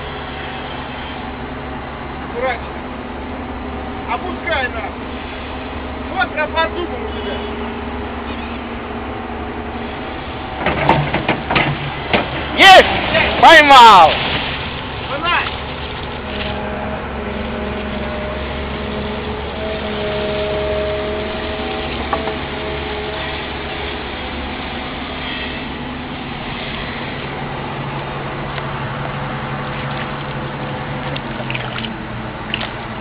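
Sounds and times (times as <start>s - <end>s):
excavator diesel engine running: 0.0s - 33.0s
high held whine: 0.0s - 33.0s.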